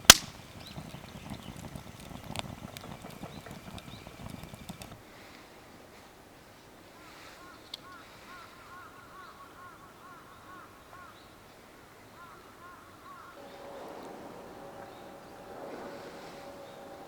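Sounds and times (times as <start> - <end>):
faint bird calls: 0.0 - 5.0, 7.2 - 11.4, 12.1 - 17.0.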